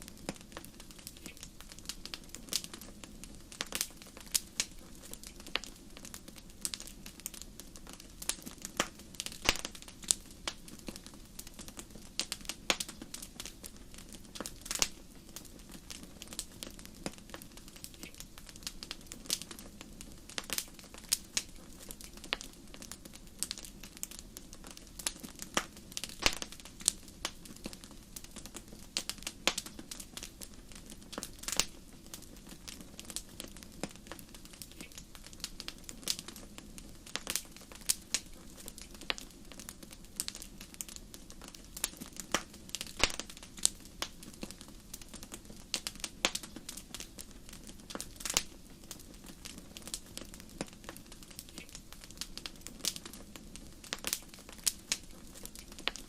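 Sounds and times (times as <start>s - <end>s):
low rush of flames: 0.0s - 56.0s
wood fire crackling: 0.0s - 56.0s.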